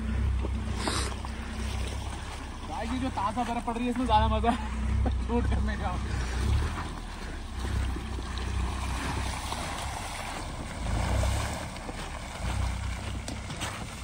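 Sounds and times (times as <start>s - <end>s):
tyres rolling through wet slush: 0.0s - 14.0s.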